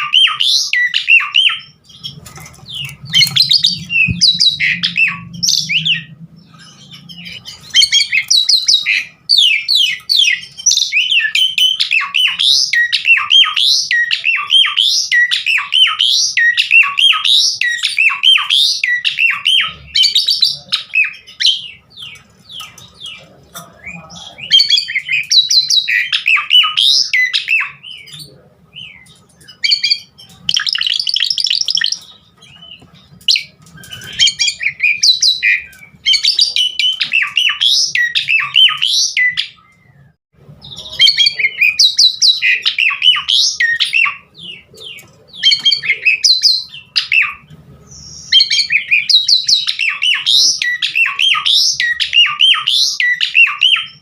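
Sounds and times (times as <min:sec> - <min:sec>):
starling singing chattering song: 0:00.0 - 0:54.0.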